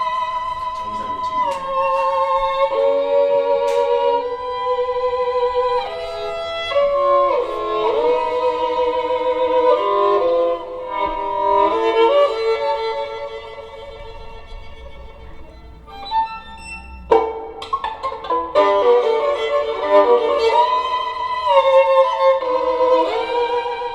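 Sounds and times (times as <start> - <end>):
violin music over loudspeakers: 0.0 - 23.9.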